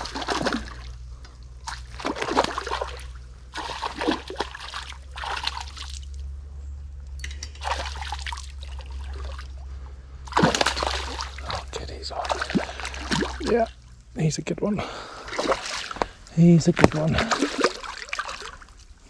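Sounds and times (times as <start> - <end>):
fish thrashing and water splashing: 0.0 - 6.3, 7.5 - 13.9, 15.0 - 19.0
steady low hum: 0.0 - 19.0.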